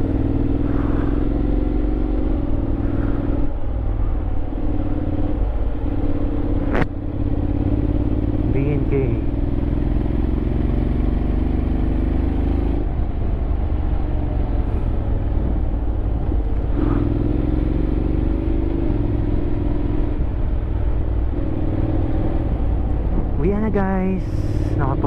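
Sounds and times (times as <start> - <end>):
motorcycle engine under way: 0.0 - 25.0
wind and road rumble: 0.0 - 25.0.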